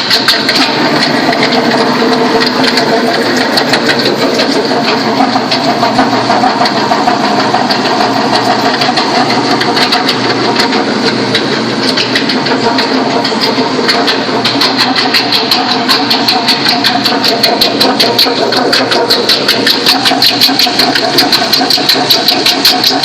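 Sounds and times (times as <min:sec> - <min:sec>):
car engine running with rattle: 0:00.0 - 0:23.0
rapid irregular ticking: 0:00.0 - 0:23.0.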